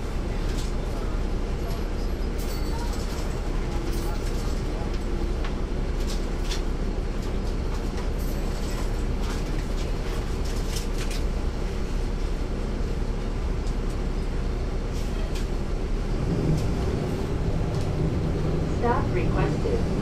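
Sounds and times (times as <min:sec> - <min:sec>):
diesel bus engine running: 0:00.0 - 0:20.0
rattles and clicks from bus body: 0:00.0 - 0:20.0
road noise: 0:00.0 - 0:20.0.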